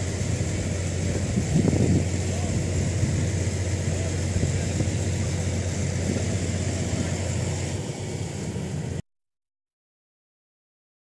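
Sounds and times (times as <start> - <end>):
diesel engine droning: 0.0 - 9.0.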